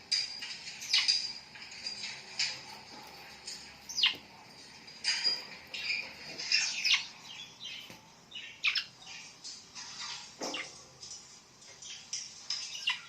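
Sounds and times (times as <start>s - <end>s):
birds calling: 0.0s - 13.0s
soft bird chirps: 0.1s - 10.9s, 11.6s - 13.0s.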